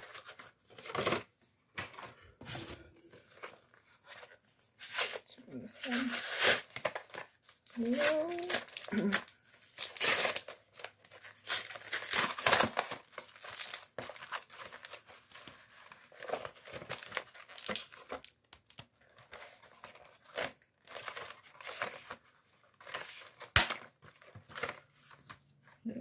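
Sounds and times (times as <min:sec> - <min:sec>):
packaging crinkling and tearing: 0:04.2 - 0:25.5.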